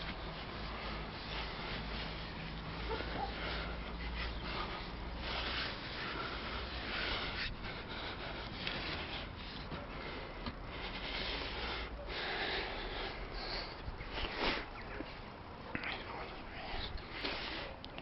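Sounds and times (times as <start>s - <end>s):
person breathing hard: 0.0s - 15.2s, 16.0s - 17.8s.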